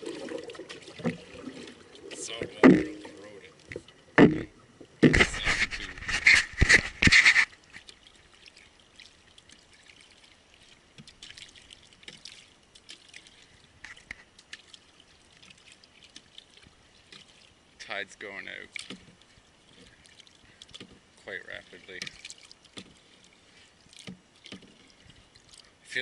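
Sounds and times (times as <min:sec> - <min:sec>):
water splashing and pouring: 0:00.0 - 0:04.4, 0:05.0 - 0:26.0
water trickling and dripping: 0:00.0 - 0:05.0, 0:07.4 - 0:26.0.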